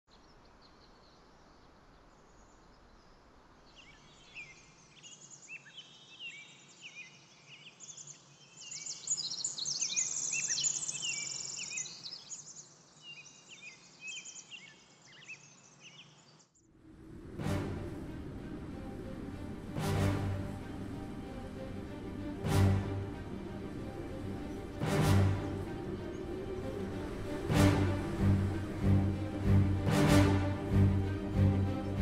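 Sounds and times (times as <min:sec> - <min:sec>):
songbirds chirping and trilling: 0:00.1 - 0:16.6, 0:18.1 - 0:32.0
faint outdoor hiss: 0:00.1 - 0:32.0.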